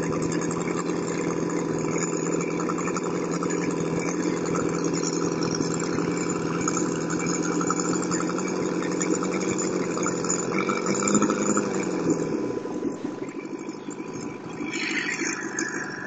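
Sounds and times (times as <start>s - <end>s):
model aircraft engine running: 0.0s - 16.0s.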